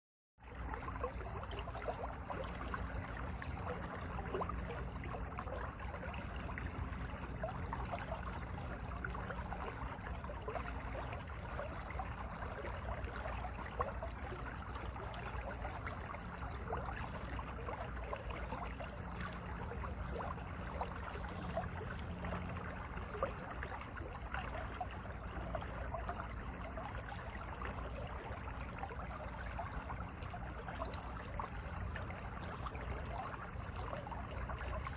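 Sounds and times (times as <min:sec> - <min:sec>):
stream flowing over rocks: 0:00.6 - 0:34.9.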